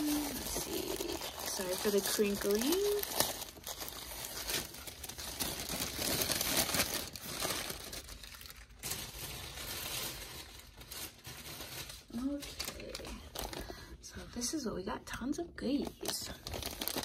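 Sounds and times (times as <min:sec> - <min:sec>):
tissue paper crinkling: 0:00.0 - 0:14.6, 0:15.7 - 0:17.0.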